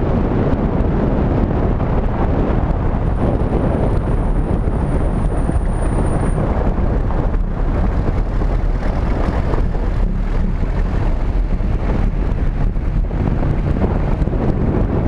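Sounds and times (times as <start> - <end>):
road noise: 0.0 - 15.0
vehicle engine: 0.0 - 15.0
wind rumble on microphone: 0.0 - 15.0.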